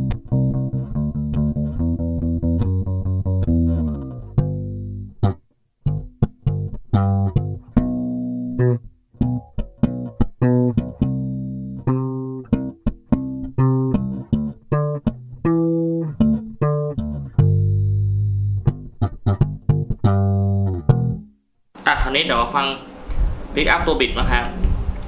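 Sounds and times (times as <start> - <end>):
electric bass plucked notes: 0.0 - 21.4.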